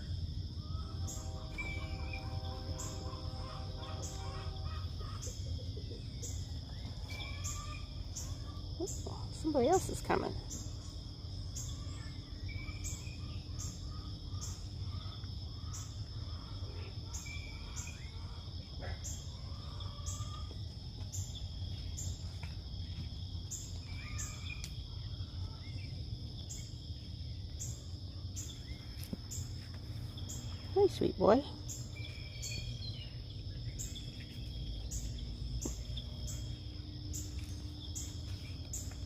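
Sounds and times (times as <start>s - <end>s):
crickets trilling: 0.0s - 39.0s
pulsing insect chirp: 0.0s - 39.0s.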